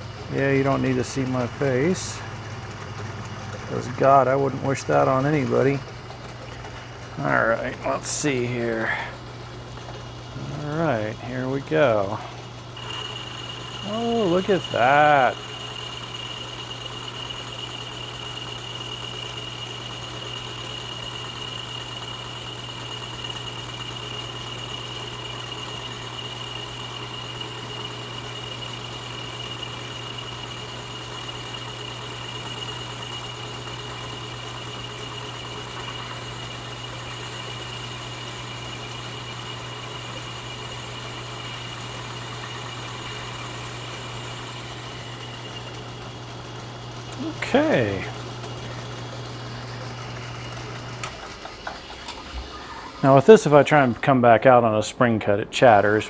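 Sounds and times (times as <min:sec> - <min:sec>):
metal lathe humming with high whine: 0:00.0 - 0:53.8.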